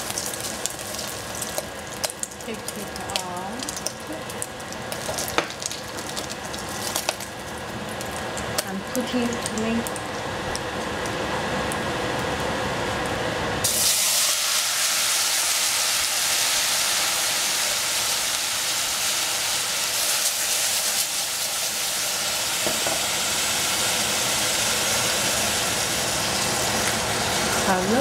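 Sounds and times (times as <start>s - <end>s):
tomatoes sizzling in hot oil: 0.0s - 28.0s.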